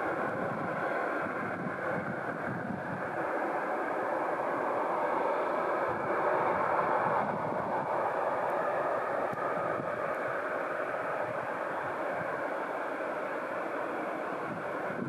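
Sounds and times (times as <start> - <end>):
jet airliner engines roaring: 0.0 - 15.0.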